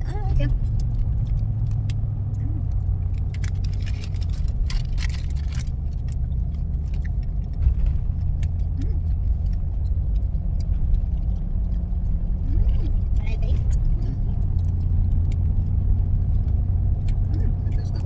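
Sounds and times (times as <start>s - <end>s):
car engine rumble from inside: 0.0s - 18.0s
rustling and clicks: 0.4s - 17.6s.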